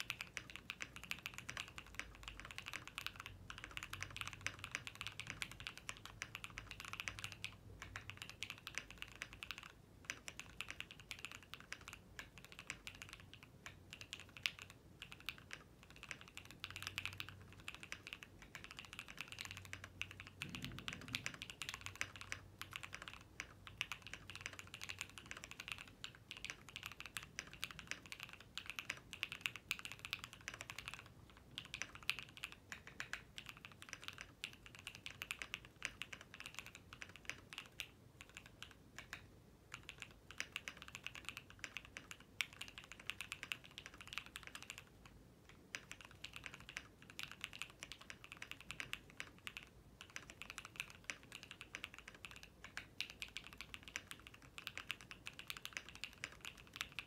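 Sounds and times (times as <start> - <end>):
clacky mechanical keyboard typing: 0.0 - 57.0.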